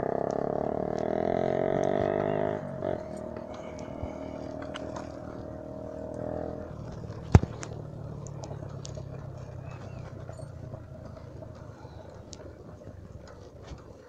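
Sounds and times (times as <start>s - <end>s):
bicycle tyres rumbling: 0.0s - 14.0s
bike rattling: 0.0s - 14.0s
low steady hum: 0.0s - 14.0s.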